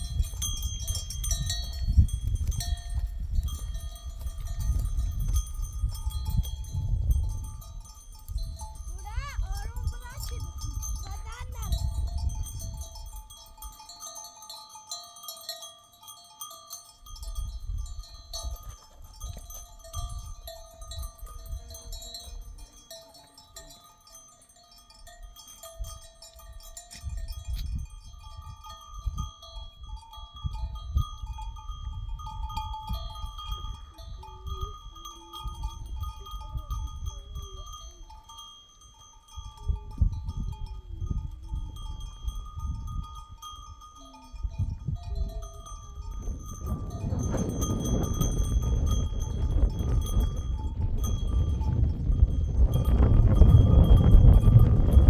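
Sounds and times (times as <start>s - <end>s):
sheep bells tinkling: 0.0s - 55.0s.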